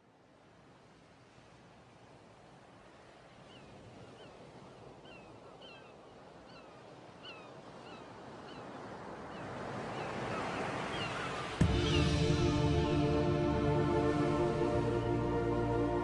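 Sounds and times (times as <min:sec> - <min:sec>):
surf washing on shore: 0:00.3 - 0:16.0.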